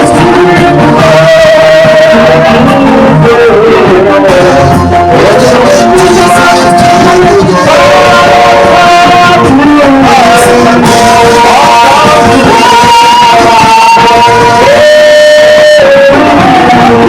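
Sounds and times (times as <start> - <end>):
man singing: 0.0 - 17.0
plucked guitar: 0.0 - 17.0.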